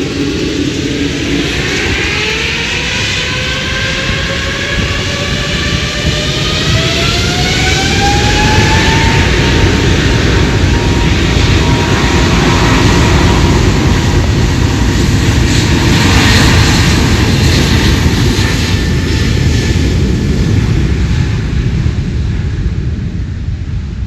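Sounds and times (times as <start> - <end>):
jet airliner passing: 0.0 - 24.0
wind rumble on microphone: 0.0 - 24.0.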